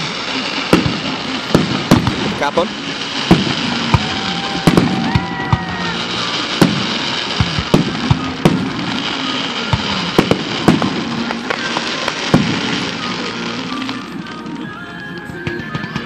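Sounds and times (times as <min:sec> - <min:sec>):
steady background hiss: 0:00.0 - 0:15.4
fireworks bangs with echo: 0:00.0 - 0:16.0.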